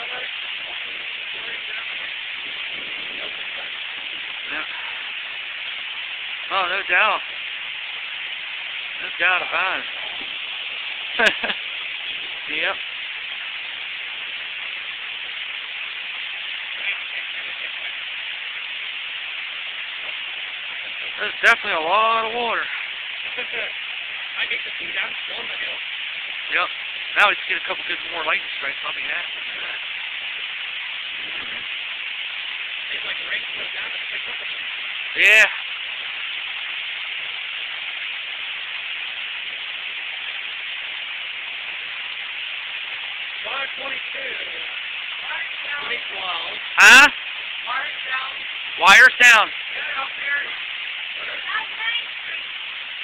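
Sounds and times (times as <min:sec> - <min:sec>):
torrential rain pouring: 0:00.0 - 0:53.0.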